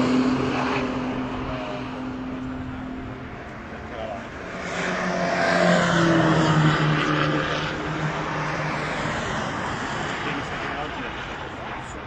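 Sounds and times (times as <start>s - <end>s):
racing car engine passing: 0.0s - 11.8s.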